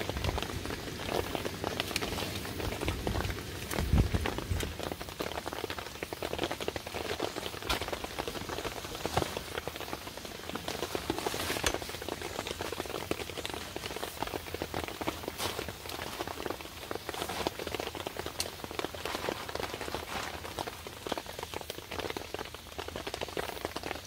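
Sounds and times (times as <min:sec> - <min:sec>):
raindrops ticking close by: 0:00.0 - 0:24.0
steady rain falling: 0:00.0 - 0:24.0.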